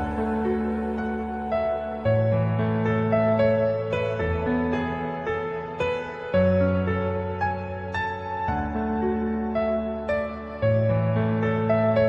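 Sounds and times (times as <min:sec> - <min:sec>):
slow piano-like music: 0:00.0 - 0:12.0.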